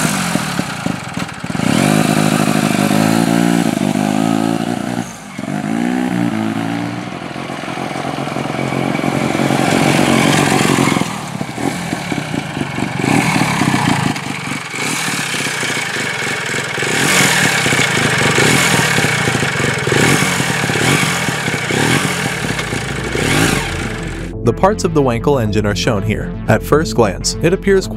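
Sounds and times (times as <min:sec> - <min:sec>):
motorcycle engine running: 0:00.0 - 0:24.4.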